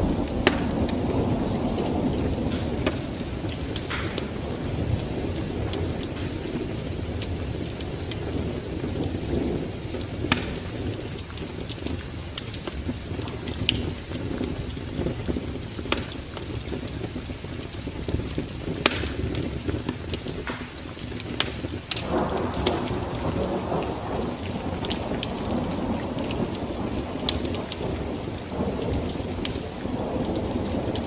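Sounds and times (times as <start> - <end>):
fire crackles and pops: 0.0 - 31.0
wood fire burning: 0.0 - 31.0.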